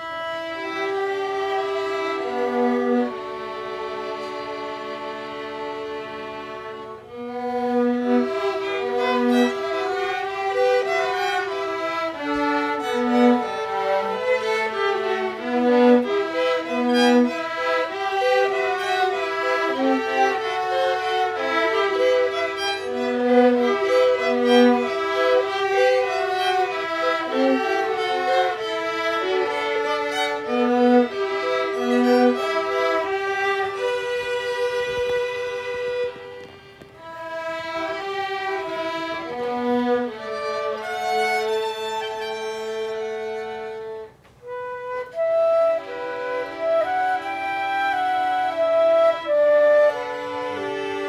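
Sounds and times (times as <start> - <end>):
violins and flute playing: 0.0 - 51.0.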